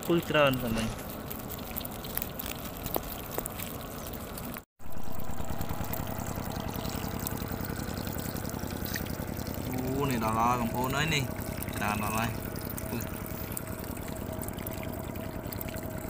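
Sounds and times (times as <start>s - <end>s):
water trickling over a bank: 0.0s - 16.0s.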